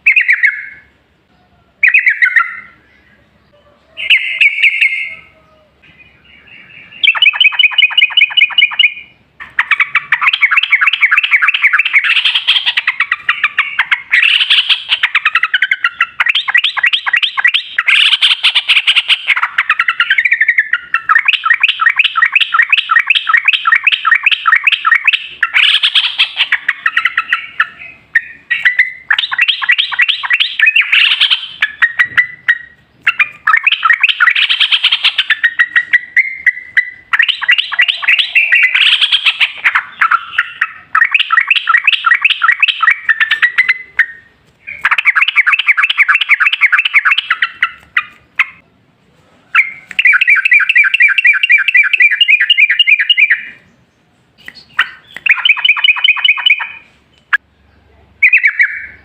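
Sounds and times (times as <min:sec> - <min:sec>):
bulbul singing rapid chattering: 0:06.3 - 0:48.6, 0:49.6 - 0:53.7, 0:54.4 - 0:57.4.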